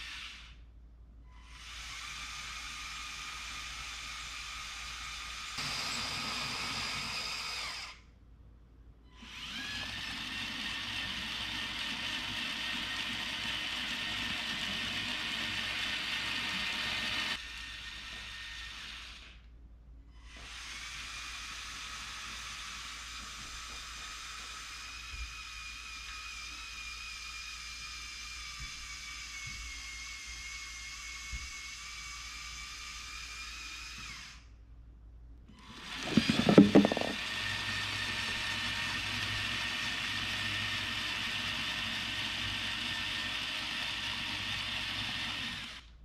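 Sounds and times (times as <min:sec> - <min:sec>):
toy electric motors whining: 0:00.0 - 0:00.6, 0:01.4 - 0:08.0, 0:09.1 - 0:19.5, 0:20.2 - 0:34.5, 0:35.5 - 0:45.9.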